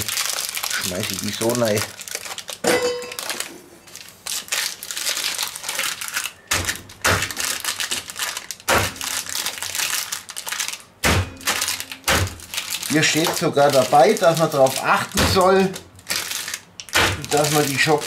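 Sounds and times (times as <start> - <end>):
wrappers crinkling and rustling: 0.0 - 18.0.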